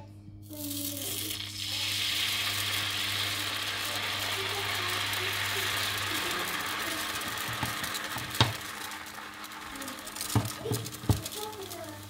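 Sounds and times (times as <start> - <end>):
induction hob hum: 0.0 - 12.0
crepe sizzling in a frying pan: 0.5 - 12.0.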